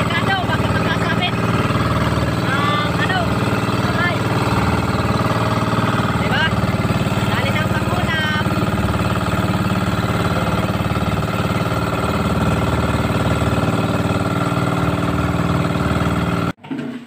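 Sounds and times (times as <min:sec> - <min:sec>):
boat engine droning: 0:00.0 - 0:16.6.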